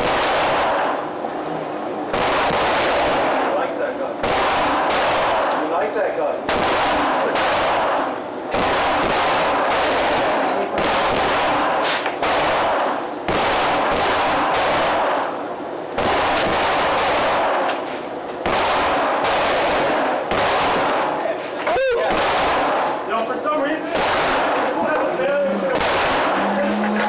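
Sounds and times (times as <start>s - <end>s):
echoing gunshots: 0.0s - 1.2s, 2.1s - 21.2s, 22.0s - 23.1s, 23.9s - 26.7s.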